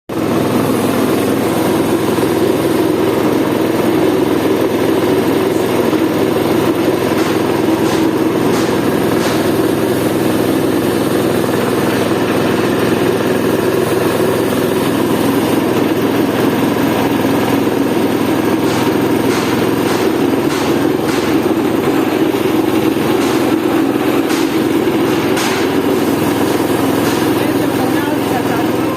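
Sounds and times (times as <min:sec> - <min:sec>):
spice grinding machine drone: 0:00.1 - 0:28.9.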